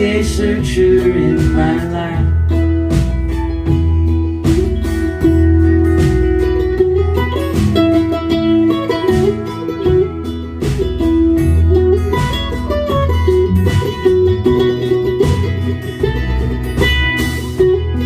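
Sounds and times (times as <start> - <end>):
bass guitar: 0.0 - 18.0
plucked string melody: 0.0 - 18.0
steady drum beat: 0.0 - 18.0
strummed guitar: 0.0 - 18.0.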